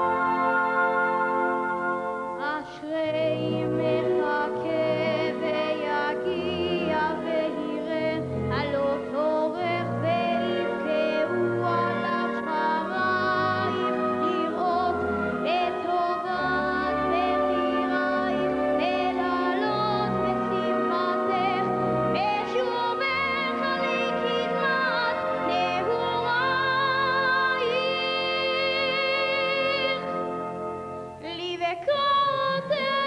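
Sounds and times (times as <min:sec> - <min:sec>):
symphony orchestra with strings: 0:00.0 - 0:33.0
boy singing with vibrato: 0:02.4 - 0:30.1, 0:31.2 - 0:33.0.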